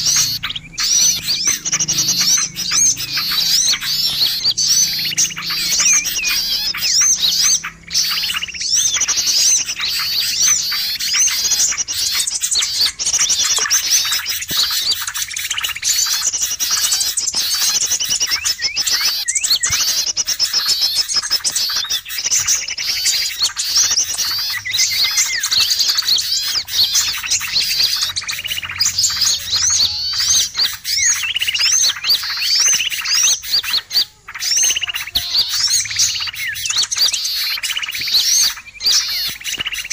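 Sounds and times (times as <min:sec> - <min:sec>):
songbirds chirping and chattering: 0:00.0 - 0:39.9.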